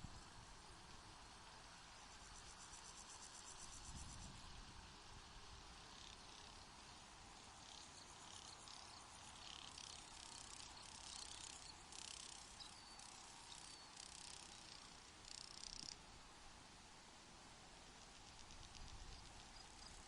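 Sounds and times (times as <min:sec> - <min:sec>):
faint hiss: 0:00.0 - 0:20.0
insect-like chirping: 0:00.1 - 0:04.5, 0:05.7 - 0:16.1, 0:17.9 - 0:20.0.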